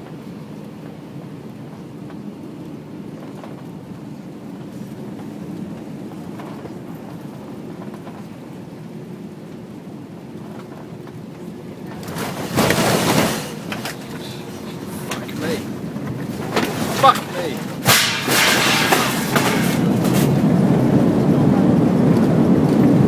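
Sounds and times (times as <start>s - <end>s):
jet engine and airflow drone: 0.0s - 23.0s.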